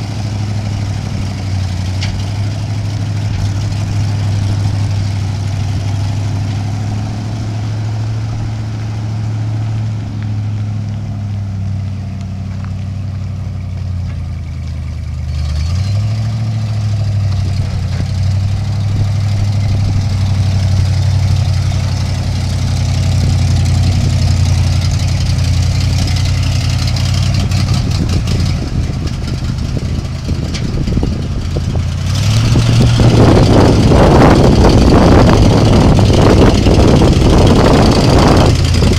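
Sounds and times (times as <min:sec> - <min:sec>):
truck engine running: 0:00.0 - 0:38.9.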